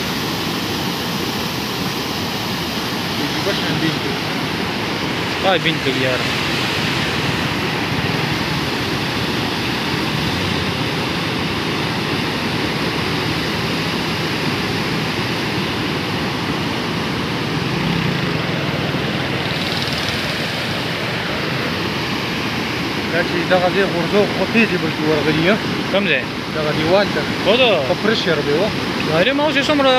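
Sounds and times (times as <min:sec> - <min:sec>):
floodwater rushing: 0:00.0 - 0:29.9.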